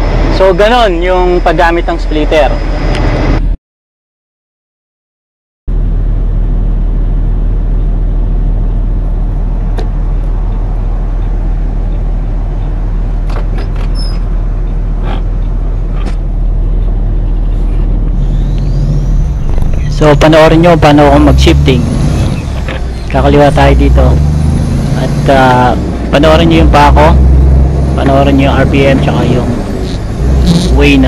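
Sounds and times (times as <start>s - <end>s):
diesel truck engine running: 5.7s - 31.0s.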